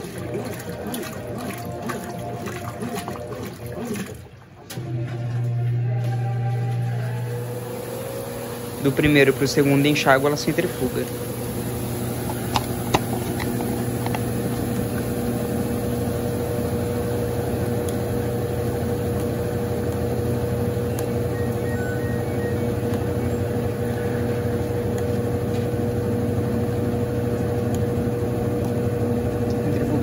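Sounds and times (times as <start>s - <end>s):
washing machine spinning: 0.0s - 30.0s.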